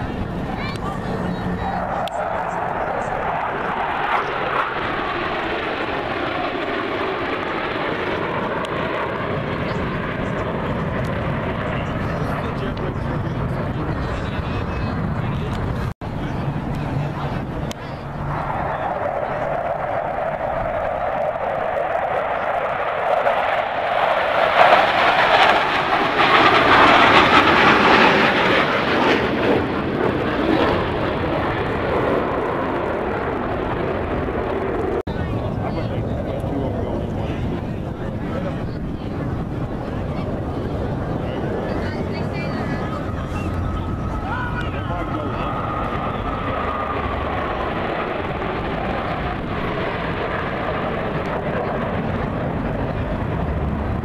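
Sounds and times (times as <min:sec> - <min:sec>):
aircraft flying past: 0:00.0 - 0:54.0.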